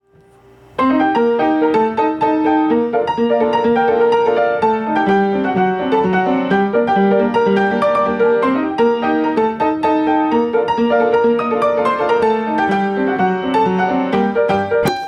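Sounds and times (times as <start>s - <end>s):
piano music: 0.8s - 15.0s.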